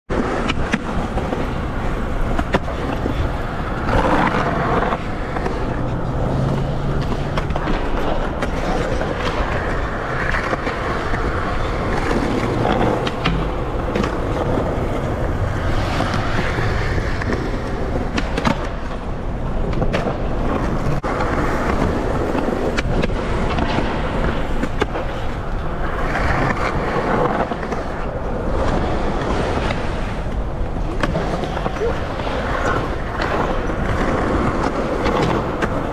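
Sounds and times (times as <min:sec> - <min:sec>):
skateboard clack: 0:00.1 - 0:35.9
skateboard wheels rolling on concrete: 0:00.1 - 0:35.9.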